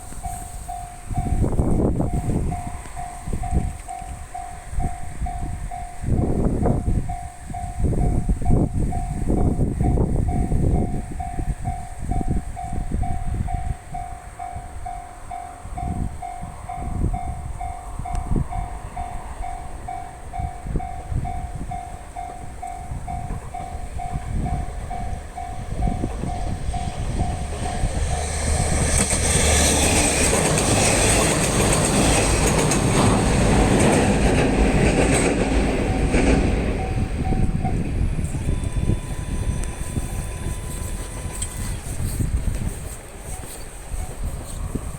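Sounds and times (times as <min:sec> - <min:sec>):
level crossing alarm ringing: 0:00.0 - 0:42.1
train wheel noise: 0:00.0 - 0:44.9.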